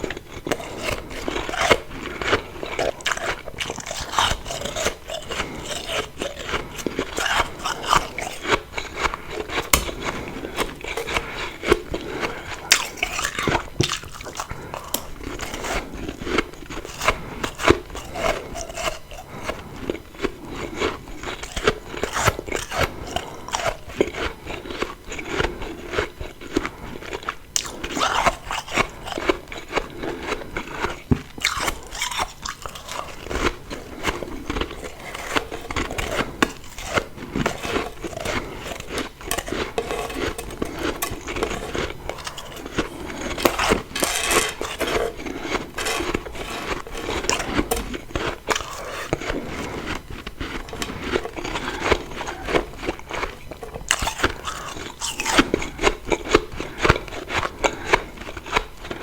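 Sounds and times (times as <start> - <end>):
biting and chewing frost: 0.0 - 59.0.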